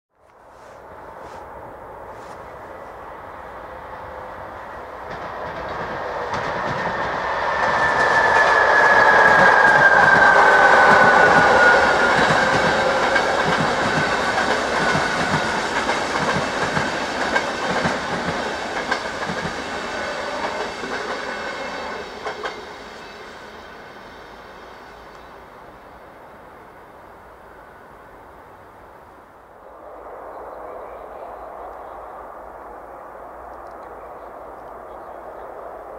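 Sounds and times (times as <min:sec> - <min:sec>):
train whine: 0:00.2 - 0:35.9.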